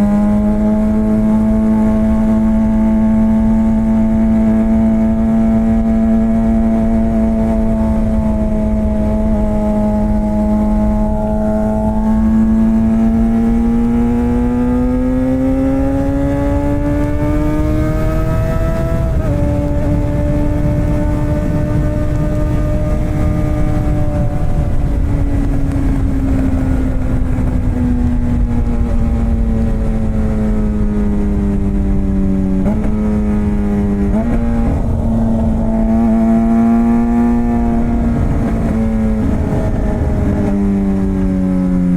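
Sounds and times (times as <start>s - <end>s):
motorcycle engine revving: 0.0s - 41.9s
wind rushing: 0.0s - 41.9s.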